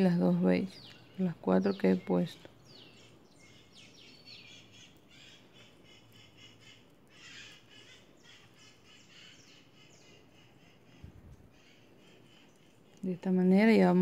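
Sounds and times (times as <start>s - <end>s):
faint bird chirps: 0.3s - 14.0s.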